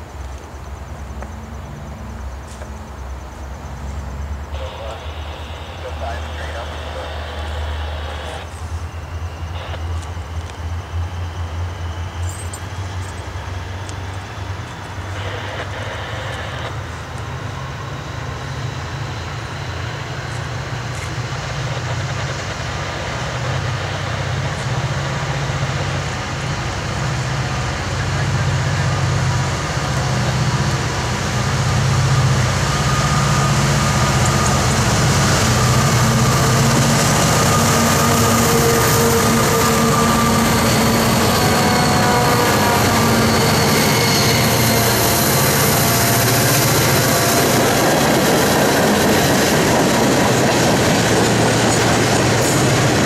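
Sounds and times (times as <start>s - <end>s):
diesel locomotive engine drone: 0.0s - 53.0s.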